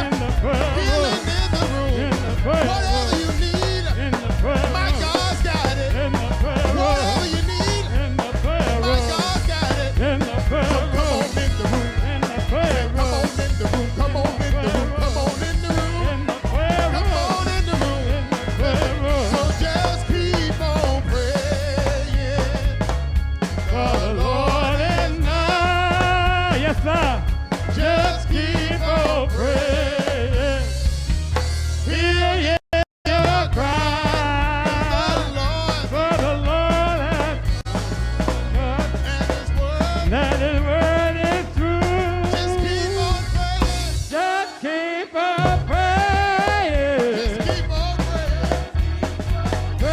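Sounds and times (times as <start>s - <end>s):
band with steady bass line: 0.0s - 49.9s
voices singing gospel music: 0.0s - 49.9s.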